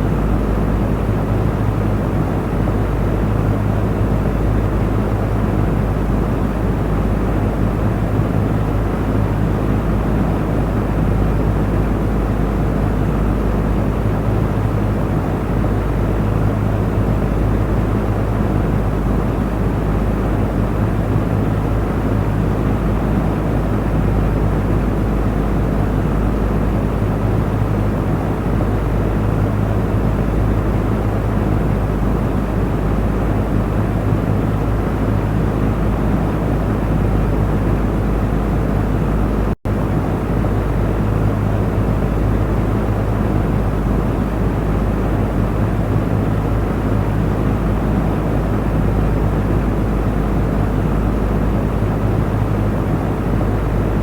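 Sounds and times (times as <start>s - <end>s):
fan motor hum: 0.0s - 54.0s.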